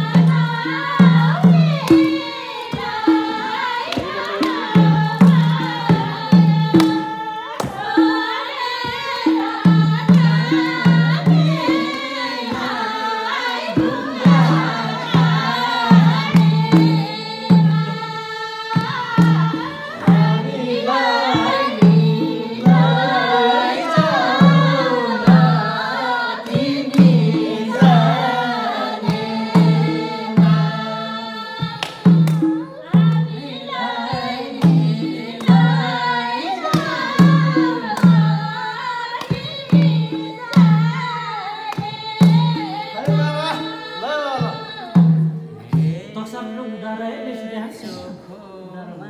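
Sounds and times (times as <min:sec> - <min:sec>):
hand drum beating: 0:00.0 - 0:45.9
voices singing a folk song: 0:00.0 - 0:49.0.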